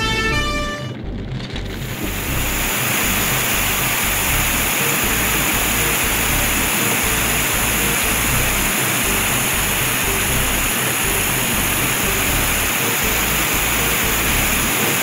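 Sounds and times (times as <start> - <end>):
background music with bass beat: 0.0 - 14.8
cartoon fire hose spraying: 1.8 - 15.0.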